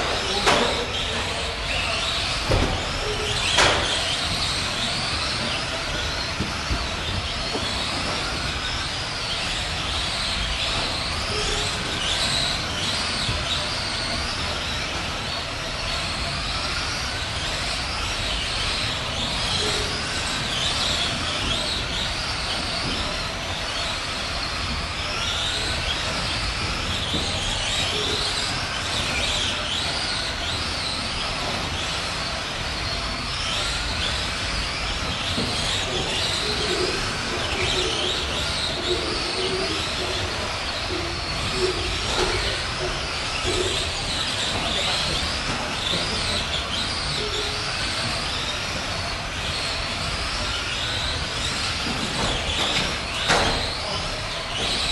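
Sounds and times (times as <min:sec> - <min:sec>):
electric motors whining: 0:00.0 - 0:54.9.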